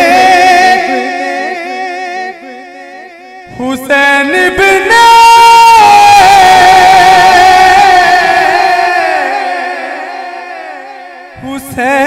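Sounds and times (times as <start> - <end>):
man singing a long held note: 0.0 - 12.0.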